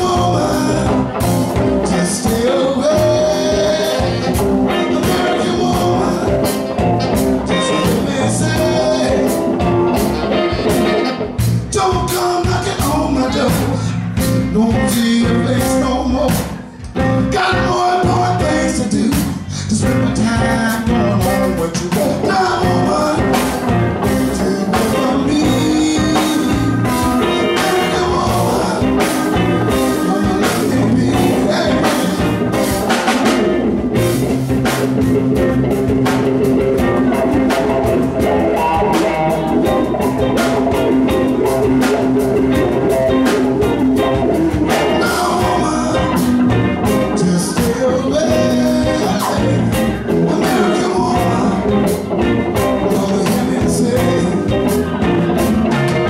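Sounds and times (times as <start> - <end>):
male lead vocal: 0.0 - 34.1, 36.8 - 56.0
live blues-rock band: 0.0 - 56.0.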